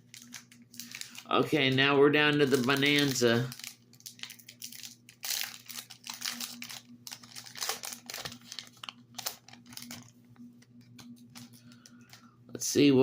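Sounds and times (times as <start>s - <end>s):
foil wrappers crinkling: 0.0s - 12.3s
faint electrical hum: 0.0s - 13.0s.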